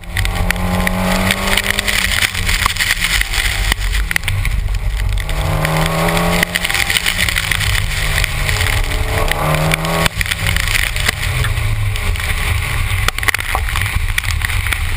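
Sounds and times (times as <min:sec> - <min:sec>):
car engine revving: 0:00.0 - 0:14.9
road rumble and tyre spray: 0:00.0 - 0:14.9.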